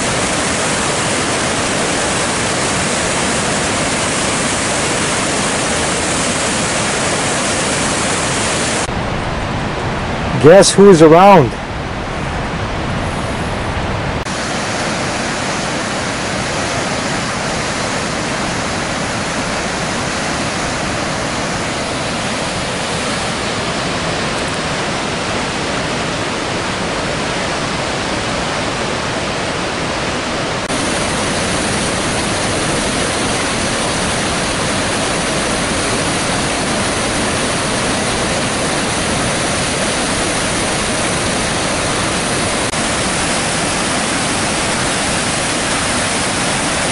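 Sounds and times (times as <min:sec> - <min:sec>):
whitewater rushing through canyon: 0:00.0 - 0:46.9.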